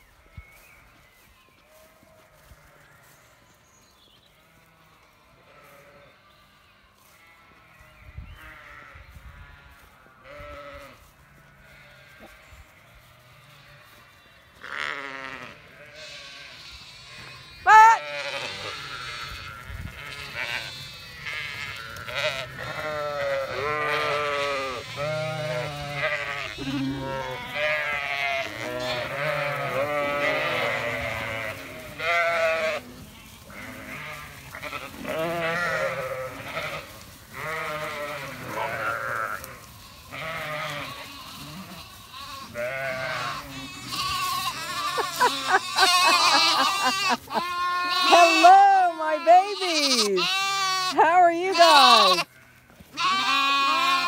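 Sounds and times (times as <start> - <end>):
sheep and lambs bleating: 1.5 - 54.0.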